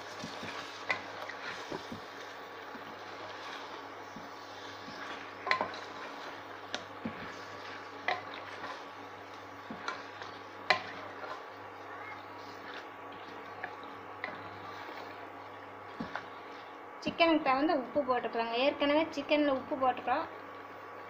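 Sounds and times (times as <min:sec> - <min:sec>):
food sizzling: 0:00.0 - 0:18.1.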